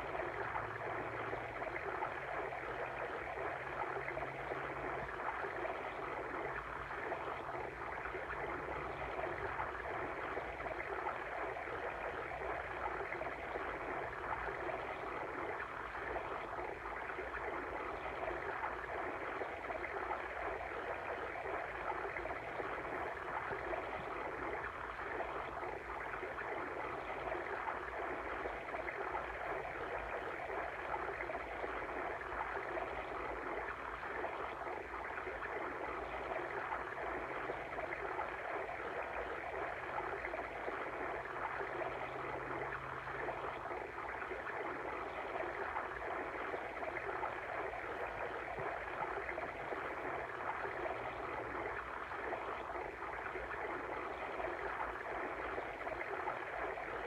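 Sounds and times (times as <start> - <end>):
stream flowing and babbling: 0.0 - 57.0.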